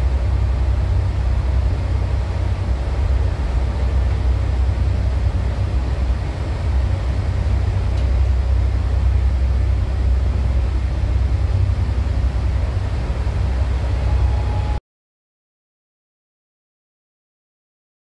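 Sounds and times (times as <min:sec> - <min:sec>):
train rumbling at speed: 0:00.0 - 0:14.8.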